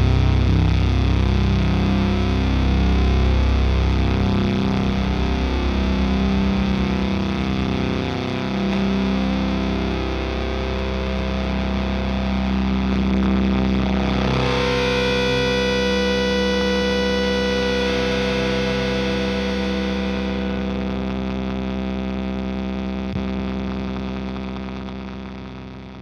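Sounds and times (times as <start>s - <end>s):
distorted electric guitars: 0.0s - 26.0s.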